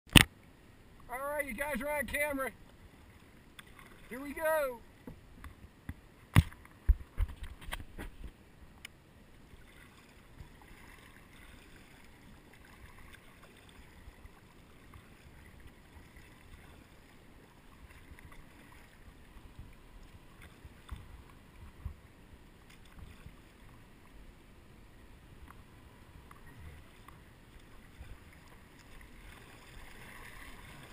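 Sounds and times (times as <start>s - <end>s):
paddle blades dipping: 0.1s - 30.9s
water lapping against hull: 1.0s - 30.9s.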